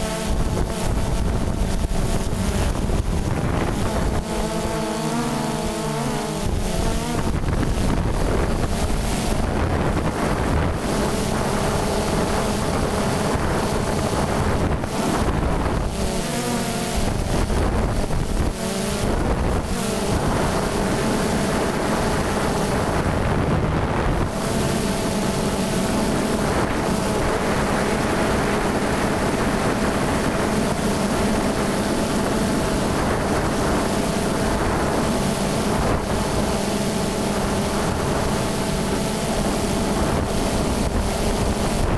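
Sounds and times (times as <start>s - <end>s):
drone propellers buzzing: 0.0s - 41.9s
wind noise: 0.0s - 41.9s.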